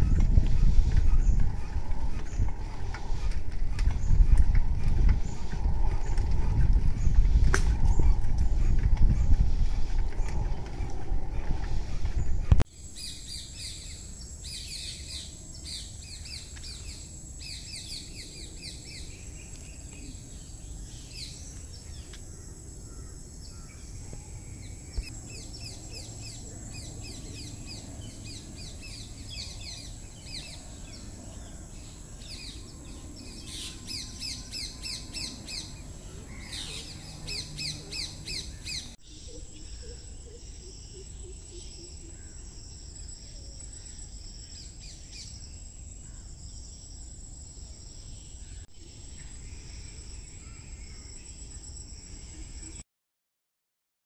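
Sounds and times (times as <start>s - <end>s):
insect drone: 0.0s - 52.8s
songbirds chirping: 0.0s - 52.8s.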